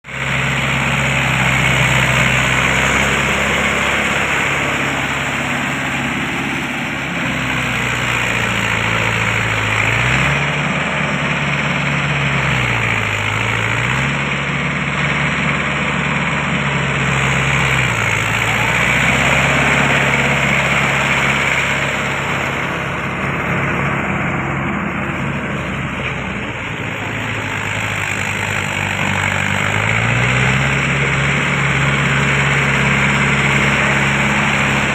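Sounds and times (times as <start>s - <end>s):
dense mechanical noise: 0.0s - 34.9s
tractor diesel engine running: 0.0s - 34.9s.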